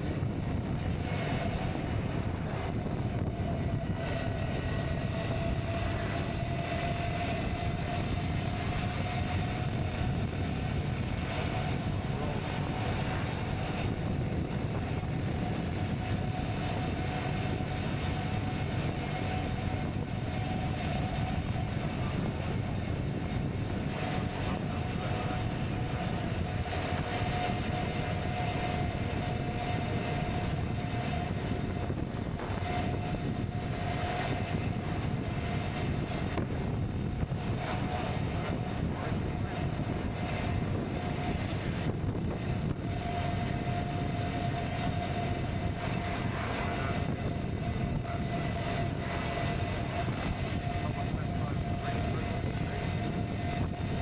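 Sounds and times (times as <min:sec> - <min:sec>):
road and wind noise: 0:00.0 - 0:54.0.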